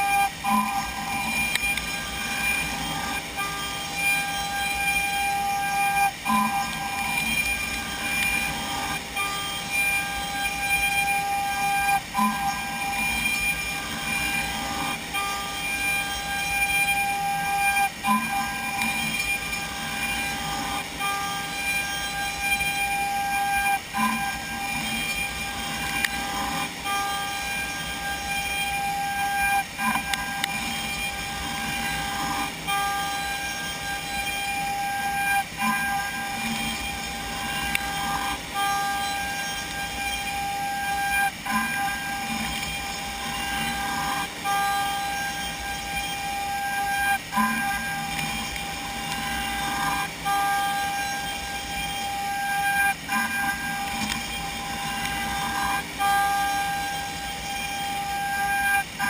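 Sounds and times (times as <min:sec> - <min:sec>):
cnc router spindle whining: 0:00.0 - 0:59.0
router cutting wood: 0:00.0 - 0:59.0.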